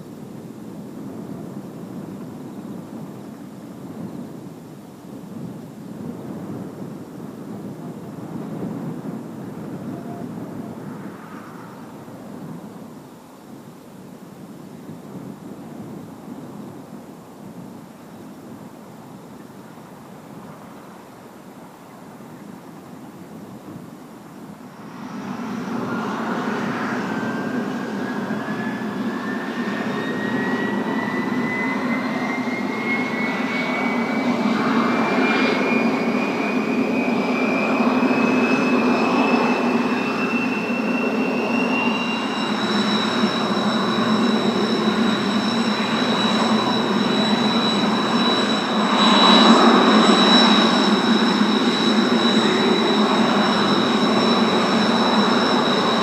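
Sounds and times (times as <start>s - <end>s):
jet engine roar: 0.0s - 56.0s
jet engine whine: 0.0s - 56.0s.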